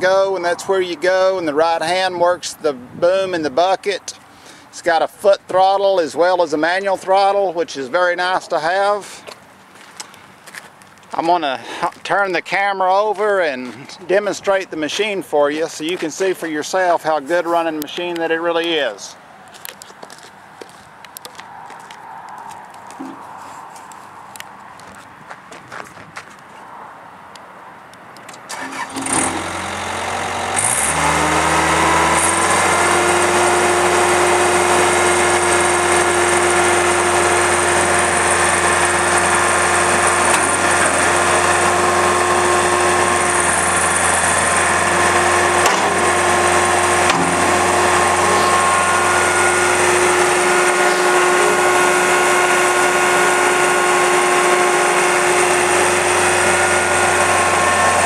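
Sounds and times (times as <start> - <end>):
diesel engine starting and running: 0.0 - 10.5, 11.1 - 20.2, 28.3 - 58.0.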